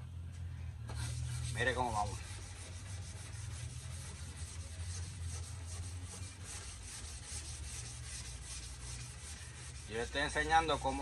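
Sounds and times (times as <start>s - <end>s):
low steady hum: 0.0s - 11.0s
sandpaper scrubbing: 1.0s - 11.0s.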